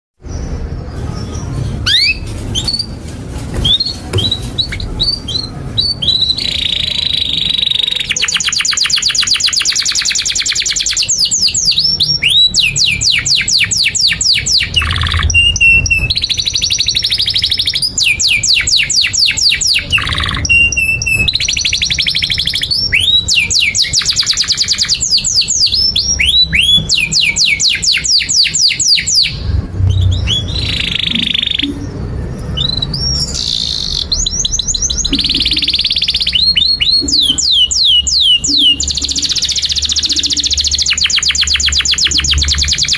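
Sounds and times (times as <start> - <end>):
canary singing trills: 0.2 - 3.0, 3.6 - 42.9.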